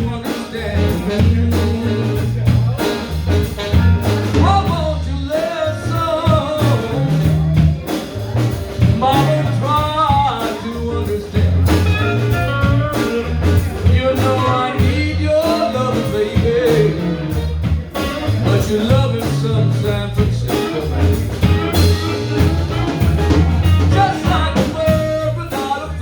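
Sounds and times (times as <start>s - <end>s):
bass line: 0.0s - 26.0s
drums: 0.0s - 26.0s
sliding lead melody: 0.0s - 26.0s.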